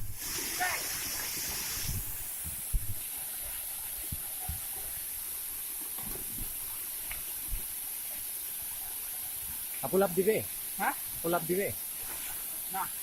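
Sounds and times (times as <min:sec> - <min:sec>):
falling water hissing: 0:00.0 - 0:13.0.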